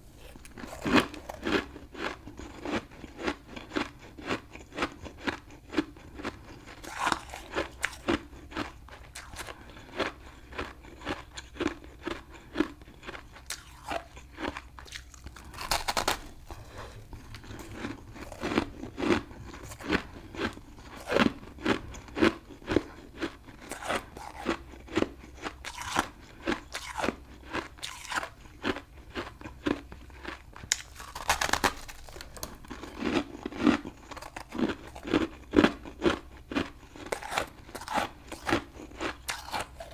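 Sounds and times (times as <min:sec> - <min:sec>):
frost being chewed with crunches: 0:00.0 - 0:39.9.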